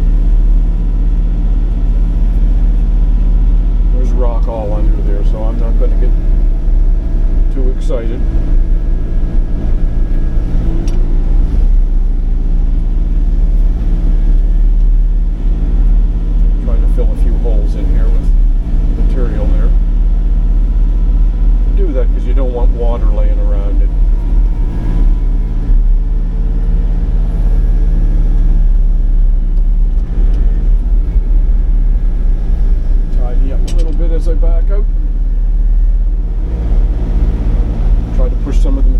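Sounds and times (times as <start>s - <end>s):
excavator diesel engine rumbling: 0.0s - 38.9s.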